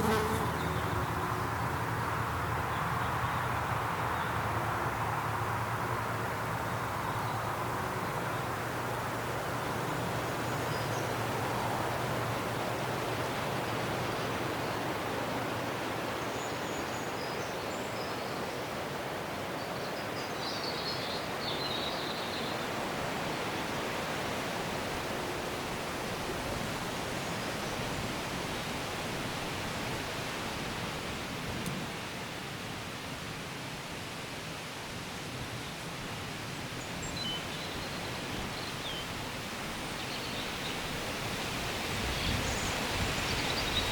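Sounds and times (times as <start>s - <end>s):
wind rustling through trees: 0.0s - 43.9s.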